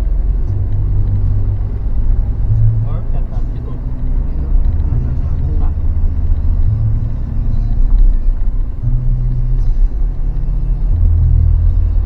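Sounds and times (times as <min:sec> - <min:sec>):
vehicle engine rumble from inside: 0:00.0 - 0:12.0.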